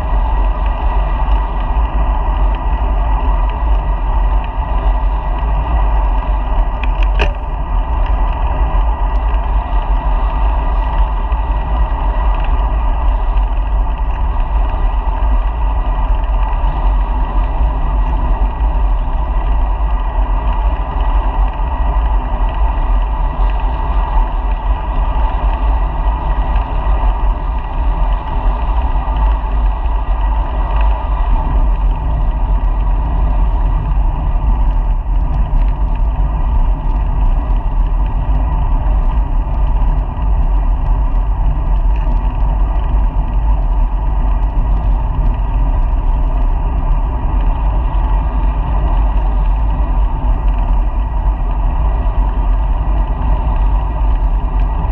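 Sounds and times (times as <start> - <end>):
road noise: 0.0 - 54.9
wind rumble on microphone: 0.0 - 54.9.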